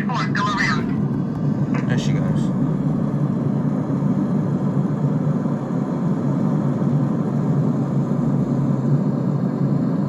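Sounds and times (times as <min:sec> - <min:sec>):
jet engines rumbling: 0:00.0 - 0:10.0.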